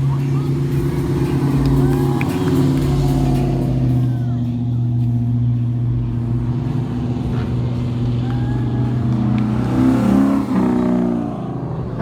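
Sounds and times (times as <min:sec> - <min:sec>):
car engine revving: 0:00.0 - 0:12.0
old car engines running: 0:00.0 - 0:12.0.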